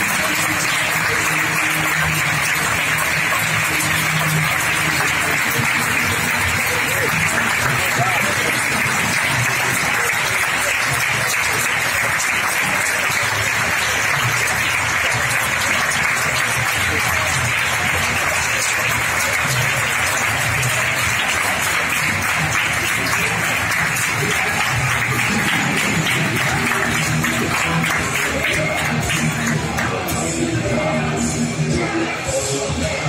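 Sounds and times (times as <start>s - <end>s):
audience applauding: 0.0s - 30.4s.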